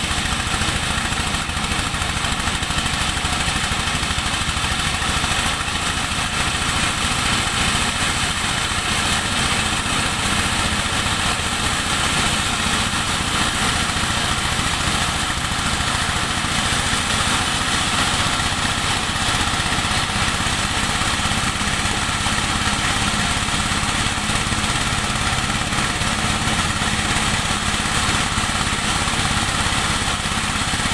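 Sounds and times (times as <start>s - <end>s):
corn sheller engine running: 0.0s - 30.9s.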